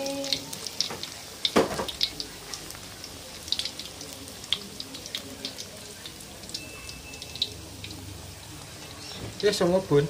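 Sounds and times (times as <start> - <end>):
food deep-frying in oil: 0.0 - 10.0.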